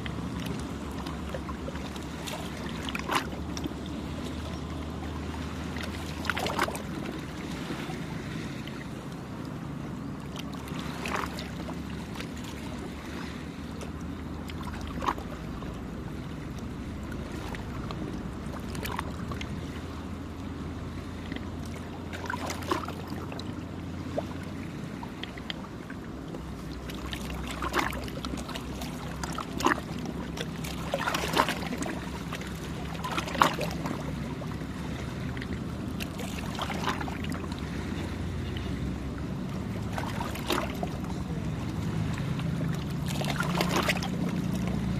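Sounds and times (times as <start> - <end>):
boat engine droning: 0.0 - 44.9
small waves splashing on shore: 0.0 - 44.9.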